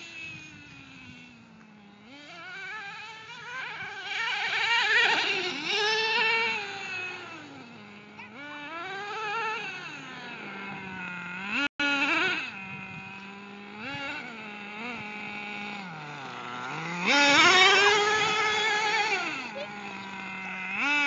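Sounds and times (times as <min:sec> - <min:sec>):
rc truck motor whining: 0:00.0 - 0:21.0.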